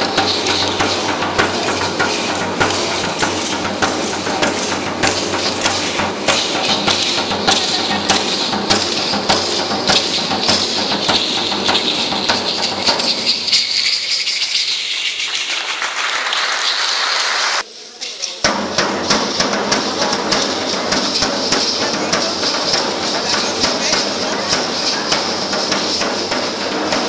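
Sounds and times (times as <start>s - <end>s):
drum beat: 0.0s - 14.6s, 18.4s - 27.0s
hand rattles shaking: 0.0s - 17.2s, 19.0s - 27.0s.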